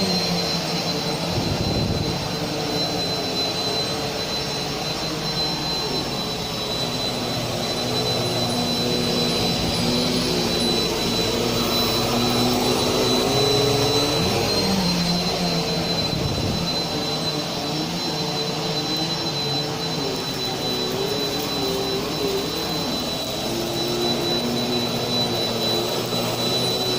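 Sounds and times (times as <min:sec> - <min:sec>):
vacuum cleaner whirring: 0:00.0 - 0:26.9.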